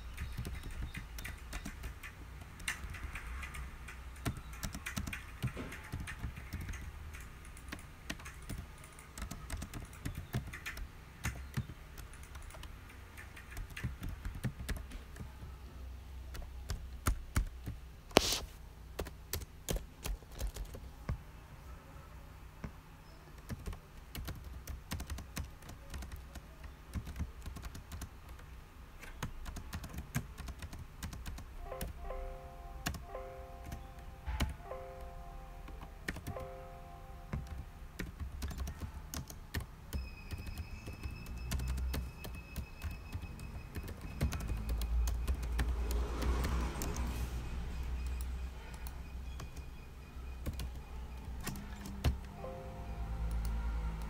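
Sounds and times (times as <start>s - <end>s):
keyboard typing: 0.0s - 21.2s, 22.6s - 54.0s
low background hum: 0.0s - 54.0s.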